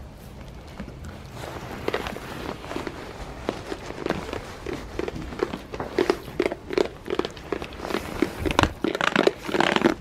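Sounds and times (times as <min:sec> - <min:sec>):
goats chewing crunchy treats: 0:00.0 - 0:10.0.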